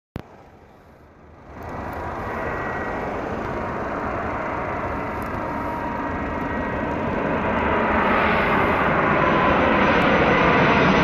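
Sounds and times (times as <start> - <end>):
faint engine whine: 0.2 - 11.0
jet engine noise: 0.2 - 11.0.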